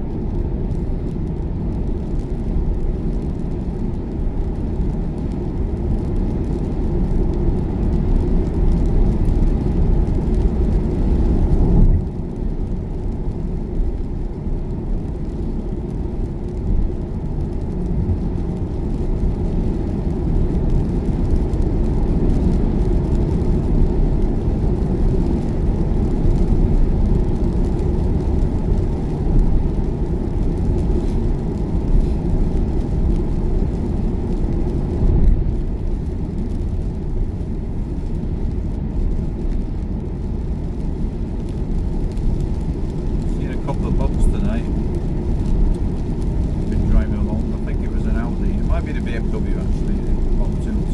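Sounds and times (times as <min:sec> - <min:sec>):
road and tyre rumble in car cabin: 0:00.0 - 0:50.9.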